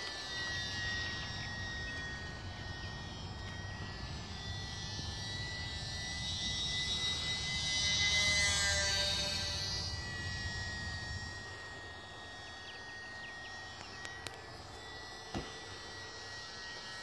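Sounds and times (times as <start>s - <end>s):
model plane motor whine: 0.0s - 17.0s.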